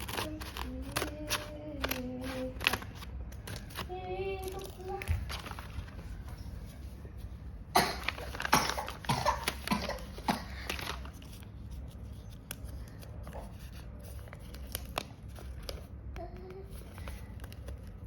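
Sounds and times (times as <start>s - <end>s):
paper crackling: 0.0s - 18.0s
paper crinkling and rustling: 0.0s - 18.0s.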